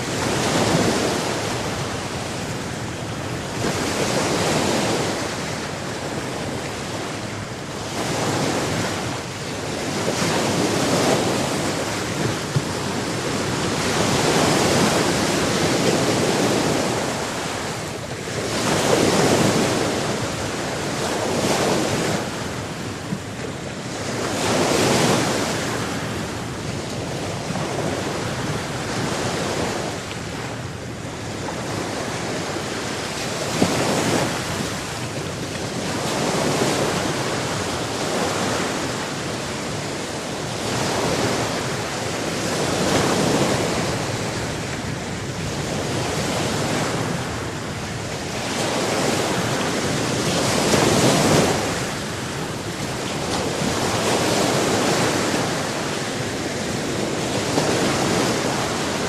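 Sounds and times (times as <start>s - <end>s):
sea waves breaking on shore: 0.0s - 59.0s
wind: 0.0s - 59.0s.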